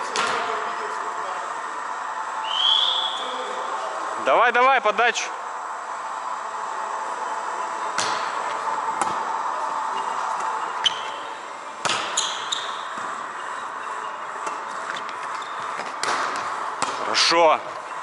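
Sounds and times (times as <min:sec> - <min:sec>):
sports hall background: 0:00.0 - 0:18.0.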